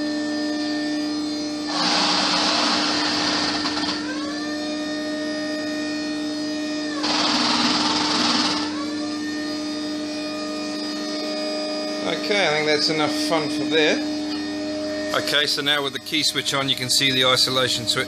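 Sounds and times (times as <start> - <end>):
power steering pump whine: 0.0 - 18.0.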